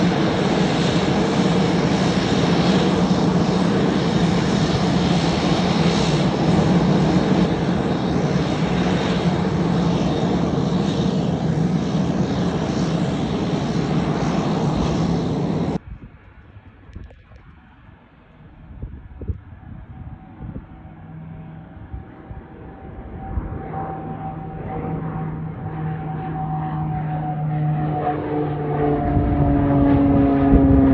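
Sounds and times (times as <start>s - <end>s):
turboprop engines droning: 0.0s - 30.9s.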